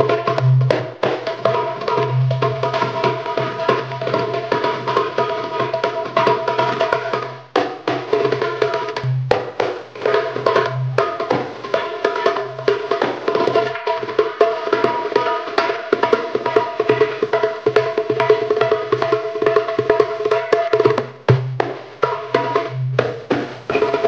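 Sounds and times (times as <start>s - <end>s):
hand drum strokes and rolls: 0.0s - 24.0s.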